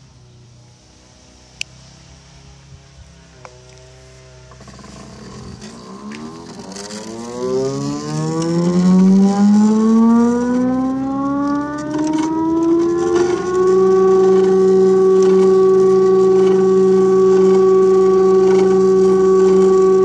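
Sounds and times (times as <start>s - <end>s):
stepper motor whining: 2.4s - 20.0s.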